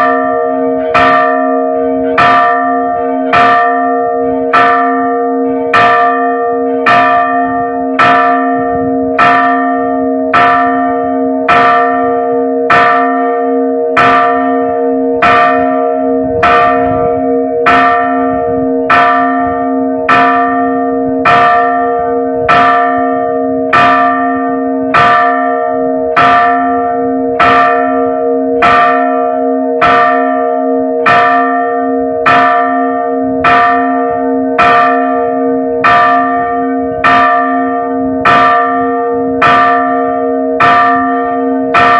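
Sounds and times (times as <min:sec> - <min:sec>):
church bell ringing: 0:00.0 - 0:41.9.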